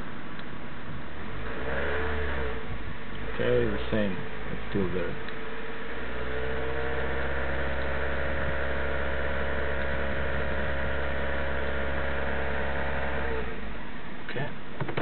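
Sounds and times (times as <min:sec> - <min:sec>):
car engine droning at raised revs: 0:01.3 - 0:13.9.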